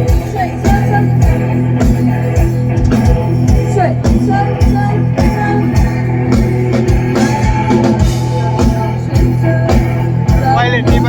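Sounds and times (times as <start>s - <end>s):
electric guitar: 0.0s - 11.0s
organ-like keyboard chords: 0.0s - 11.0s
steady drum beat: 0.0s - 11.0s.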